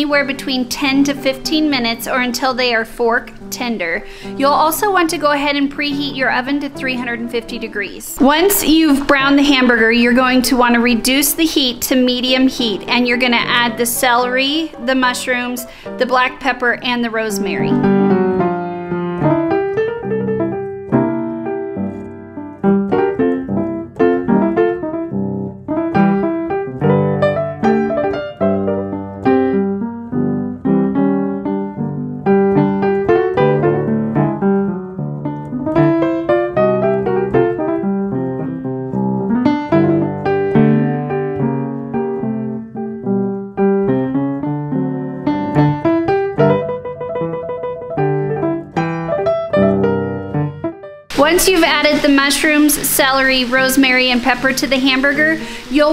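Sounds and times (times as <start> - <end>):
piano music: 0.0 - 55.9.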